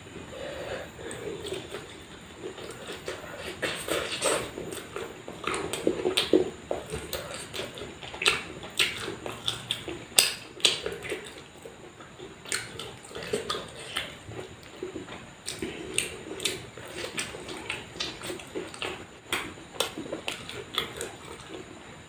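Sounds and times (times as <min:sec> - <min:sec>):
wet chewing and lip smacking: 0:01.0 - 0:21.7.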